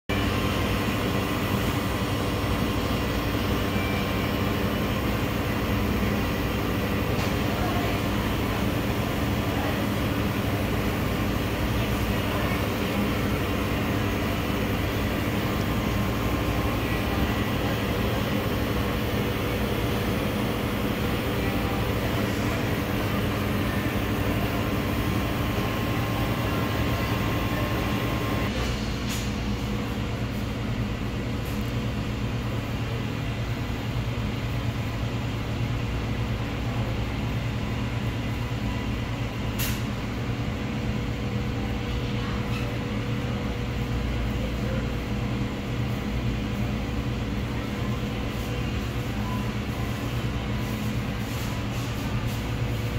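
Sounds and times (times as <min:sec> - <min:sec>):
kitchen machinery droning: 0:00.1 - 0:52.9.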